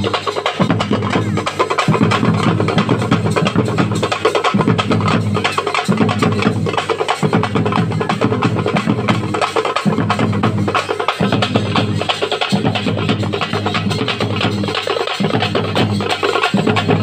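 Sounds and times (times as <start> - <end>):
frame drums beaten: 0.0 - 17.0.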